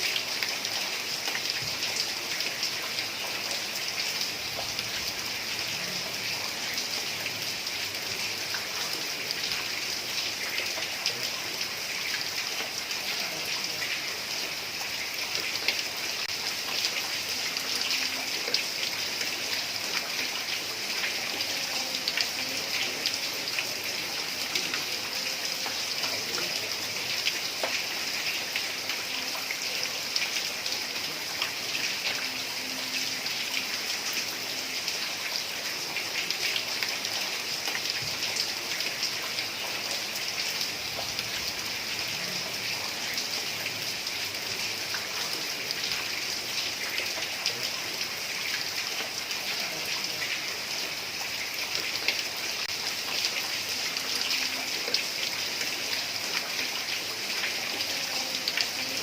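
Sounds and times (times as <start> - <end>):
heavy rain on a tiled roof: 0.0 - 59.0.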